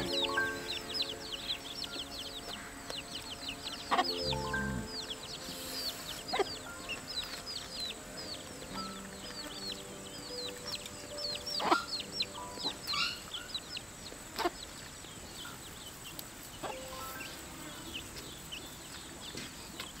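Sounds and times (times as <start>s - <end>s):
background music notes: 0.0s - 14.1s, 16.6s - 19.7s
small birds chirping: 0.0s - 20.0s.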